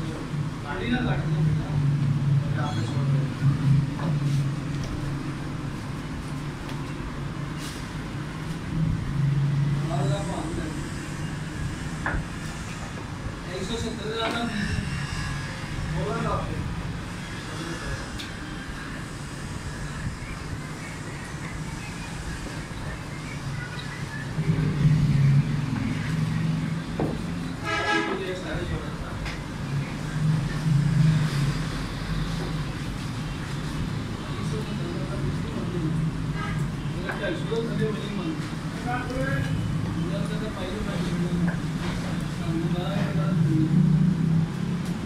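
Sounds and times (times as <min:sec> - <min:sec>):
vehicle engine droning: 0:00.0 - 0:45.0.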